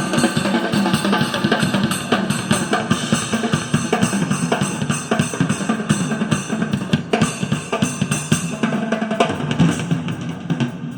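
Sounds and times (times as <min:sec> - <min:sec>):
drum-heavy music through small speaker: 0:00.0 - 0:10.9.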